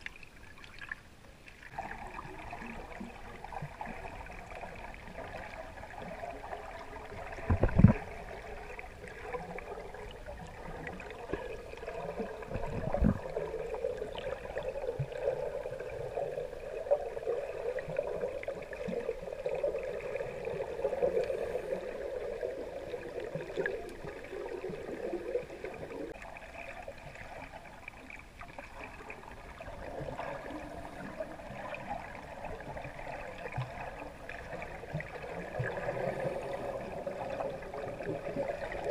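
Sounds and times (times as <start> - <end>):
muffled underwater water noise: 0.0 - 38.9.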